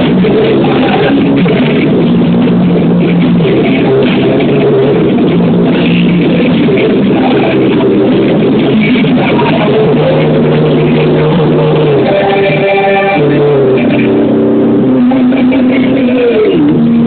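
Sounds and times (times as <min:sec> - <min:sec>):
rock band playing through speakers: 0:00.0 - 0:17.0.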